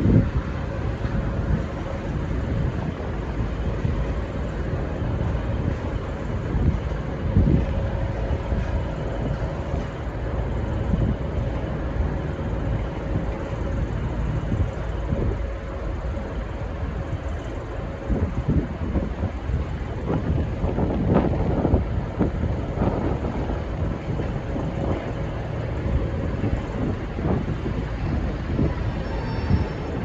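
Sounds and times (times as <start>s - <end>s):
train rumbling on track: 0.0s - 30.0s.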